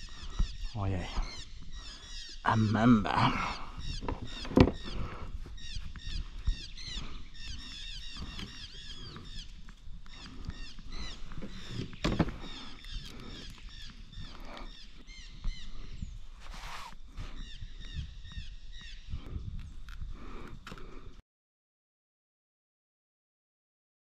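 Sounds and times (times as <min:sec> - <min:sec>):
many birds chirping: 0:00.0 - 0:21.2.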